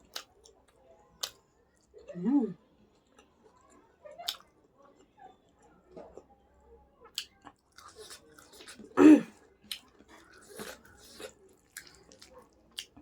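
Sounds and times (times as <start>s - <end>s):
chewing and mouth sounds: 0.0s - 2.1s, 2.9s - 6.2s, 7.0s - 13.0s.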